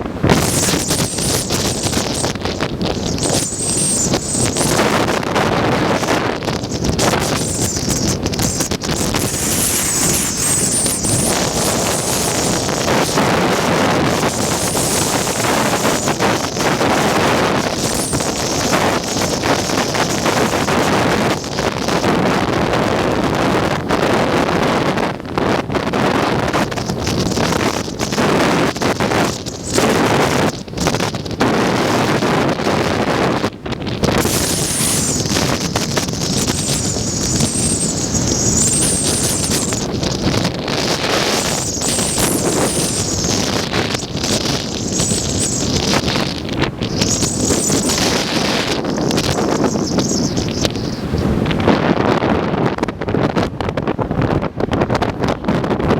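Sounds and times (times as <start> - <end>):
strong wind on microphone: 0.0 - 55.9.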